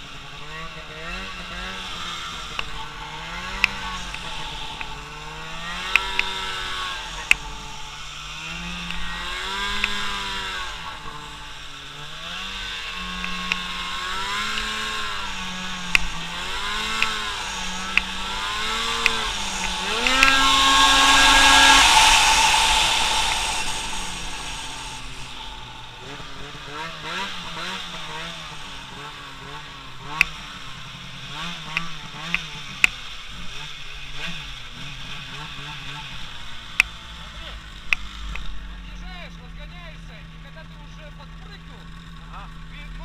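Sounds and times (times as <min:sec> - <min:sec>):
snowmobile engine revving: 0:00.0 - 0:43.0.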